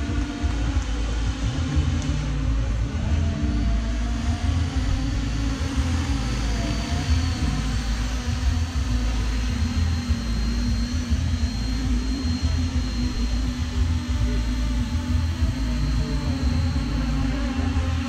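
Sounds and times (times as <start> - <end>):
heavy low rumble: 0.0 - 18.0
model helicopter rotor drone: 0.0 - 18.0.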